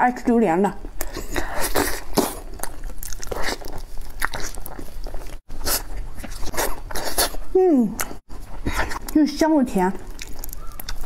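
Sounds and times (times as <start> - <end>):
wet chewing with mouth clicks: 0.8 - 11.0.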